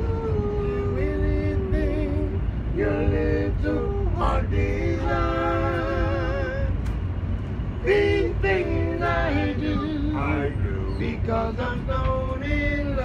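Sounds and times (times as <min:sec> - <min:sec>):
voices singing in harmony: 0:00.0 - 0:06.9, 0:07.7 - 0:13.0
subway train rumbling: 0:00.0 - 0:13.0.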